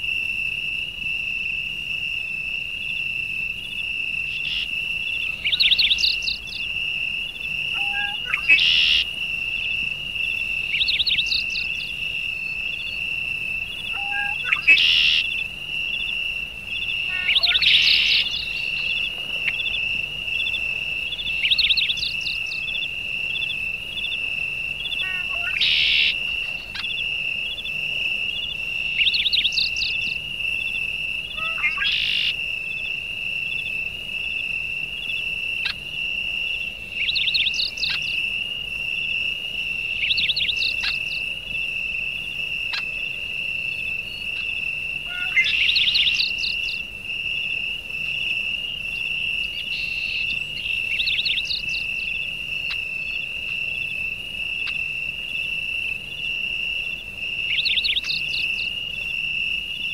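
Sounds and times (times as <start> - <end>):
insect chorus pulsing: 0.0 - 59.9
bird chirping: 2.8 - 33.8, 35.0 - 59.9.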